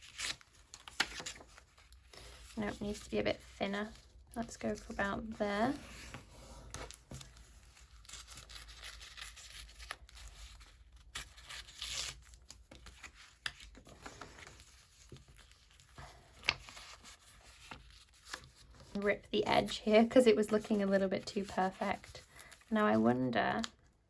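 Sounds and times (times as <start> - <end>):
paper rustling: 0.0 - 23.7.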